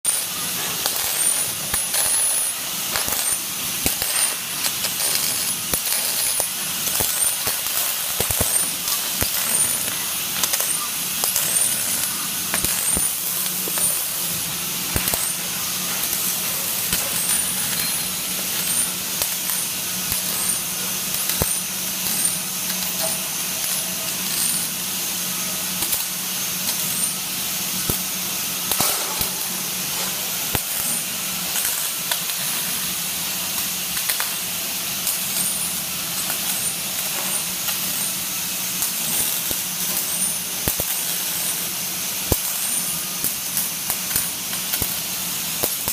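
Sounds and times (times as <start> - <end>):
welding arc hissing and crackling: 0.0 - 45.9.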